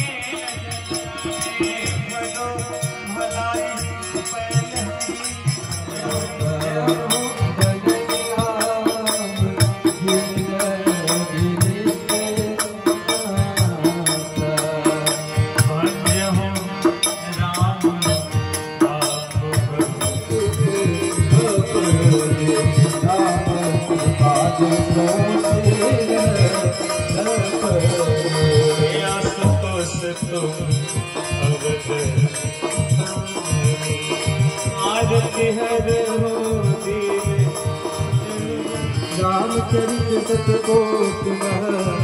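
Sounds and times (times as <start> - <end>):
rattle-like percussion: 0.0 - 42.0.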